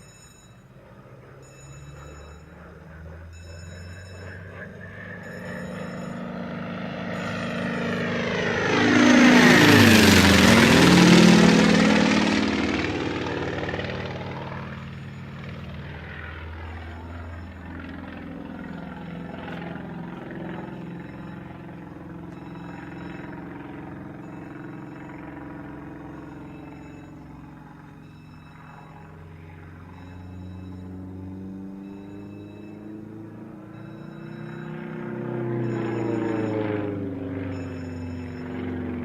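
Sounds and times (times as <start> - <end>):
aircraft flying low past: 0.0 - 39.0.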